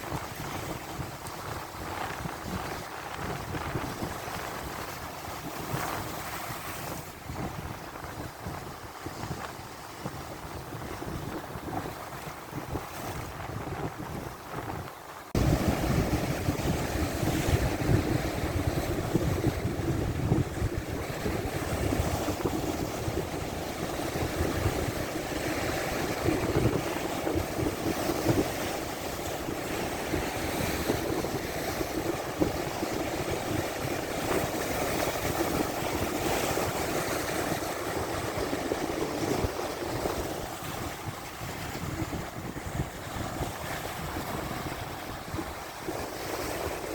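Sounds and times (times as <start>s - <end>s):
waves breaking and surging: 0.0s - 46.9s
wind noise on microphone: 0.0s - 46.9s.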